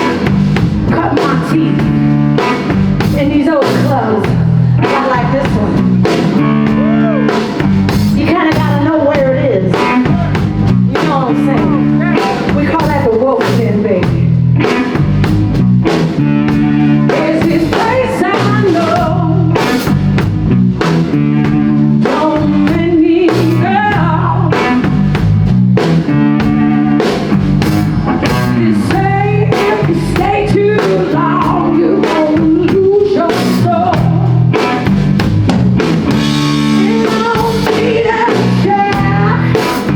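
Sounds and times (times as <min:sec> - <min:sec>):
bass line: 0:00.0 - 0:39.9
blues-rock band playing: 0:00.0 - 0:39.9
drum kit beat: 0:00.0 - 0:39.9
electric guitar: 0:00.0 - 0:39.9.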